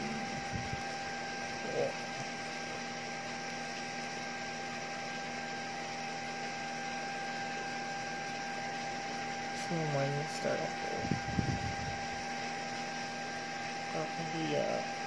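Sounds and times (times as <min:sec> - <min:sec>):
electrical hum with high tone: 0:00.0 - 0:15.0.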